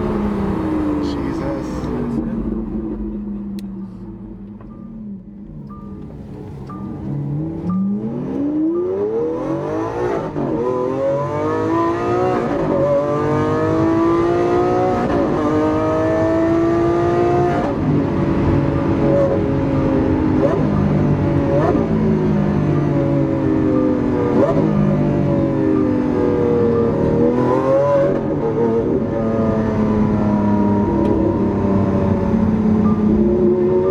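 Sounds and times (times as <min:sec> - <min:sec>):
car engine accelerating hard: 0:00.0 - 0:33.9.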